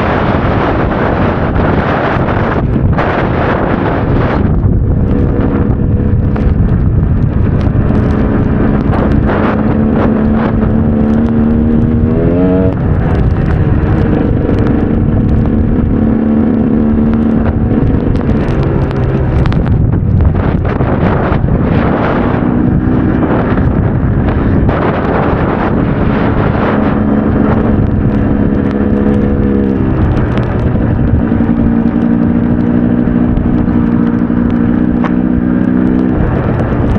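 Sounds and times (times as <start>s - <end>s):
two-stroke motorcycle engine revving: 0.0s - 36.9s
wind noise on microphone: 0.0s - 36.9s.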